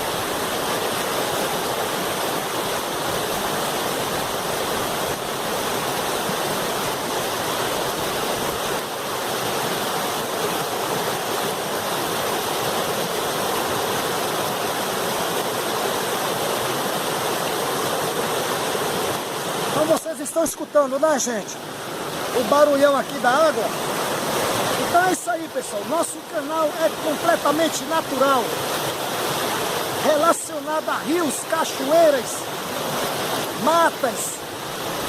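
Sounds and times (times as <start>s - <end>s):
river pouring over waterfall: 0.0s - 35.0s.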